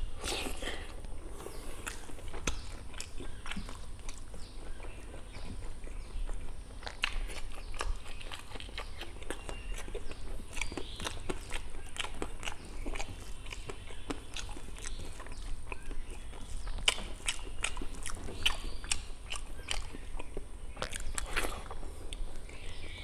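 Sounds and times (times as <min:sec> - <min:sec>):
person chewing with lip smacks: 0:00.1 - 0:23.0.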